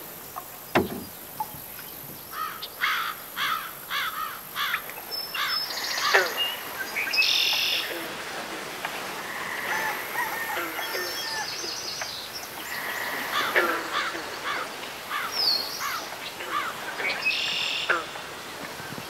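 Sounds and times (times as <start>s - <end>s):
noisy outdoor ambience: 0.0s - 19.0s
bird calls: 0.3s - 7.9s, 9.6s - 18.1s.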